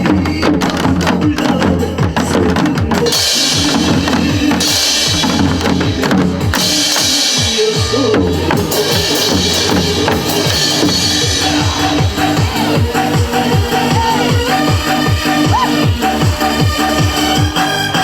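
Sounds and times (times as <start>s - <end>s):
hourglass drums struck rhythmically: 0.0s - 18.0s.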